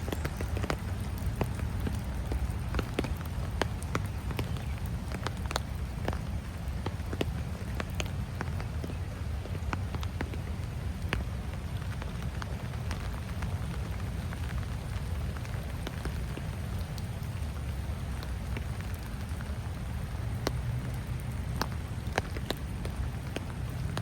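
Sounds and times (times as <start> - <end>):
raindrop ticks: 0.0 - 24.0
steady rain: 0.0 - 24.0.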